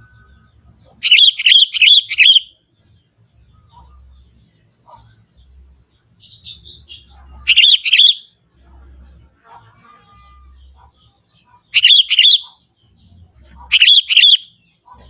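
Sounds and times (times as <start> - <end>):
bird singing warbled phrase: 0.0 - 15.0
faint bird chirps: 0.0 - 15.0.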